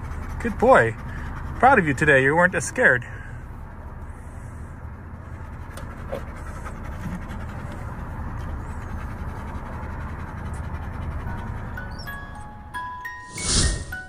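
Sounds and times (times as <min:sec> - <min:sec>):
dog panting: 0:00.0 - 0:03.0, 0:03.7 - 0:12.6.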